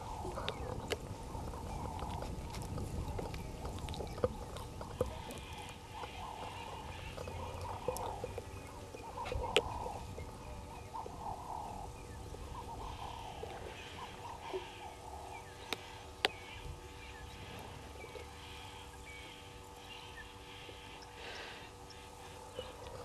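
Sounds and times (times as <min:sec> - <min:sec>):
birds calling and chattering: 0:00.0 - 0:23.0.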